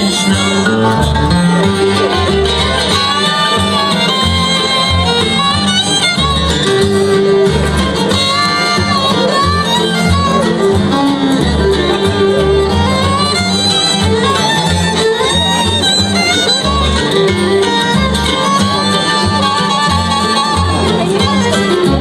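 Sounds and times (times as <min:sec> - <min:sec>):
bass line: 0:00.0 - 0:22.0
fiddle: 0:00.0 - 0:22.0
guitar: 0:00.0 - 0:22.0.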